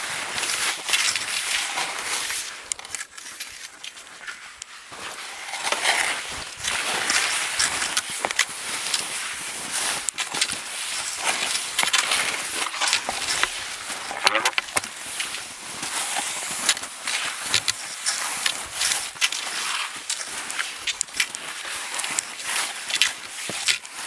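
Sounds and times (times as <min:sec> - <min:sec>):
footsteps crunching in snow: 0:00.0 - 0:24.0.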